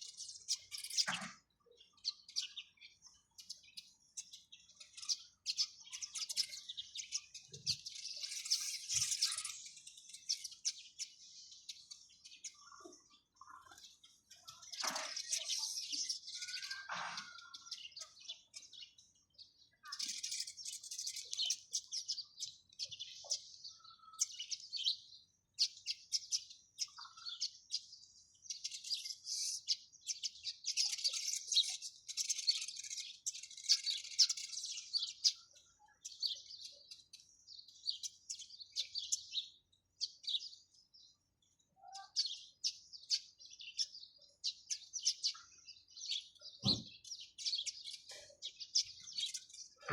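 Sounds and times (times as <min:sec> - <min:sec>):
sparrows chirping: 0:00.0 - 0:49.9.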